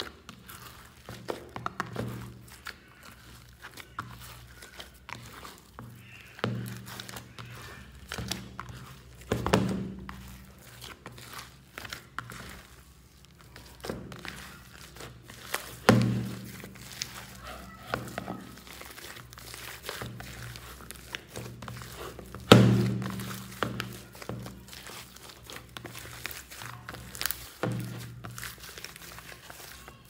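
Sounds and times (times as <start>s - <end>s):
heavy slime squelches: 0.0s - 30.0s.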